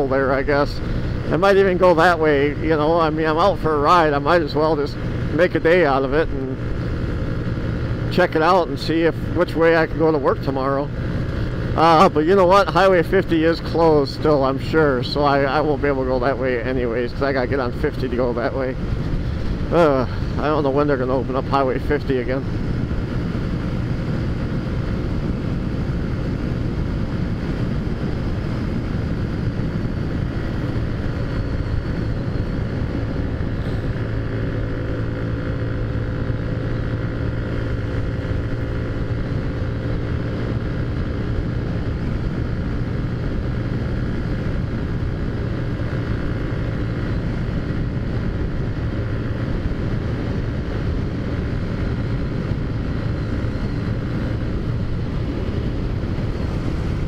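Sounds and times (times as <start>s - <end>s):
road and wind noise: 0.0s - 57.0s
vehicle engine humming: 0.0s - 57.0s.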